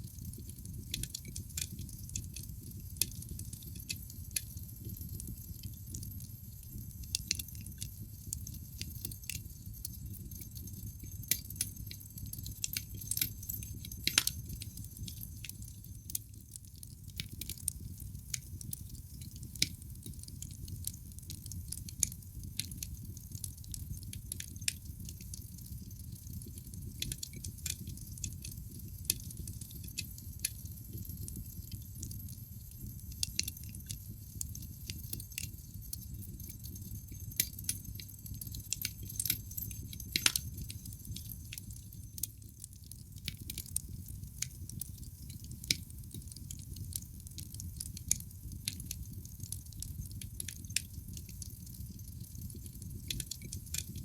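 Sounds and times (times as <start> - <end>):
logs crackling in fireplace: 0.0 - 54.0
low fire rumble: 0.0 - 54.0.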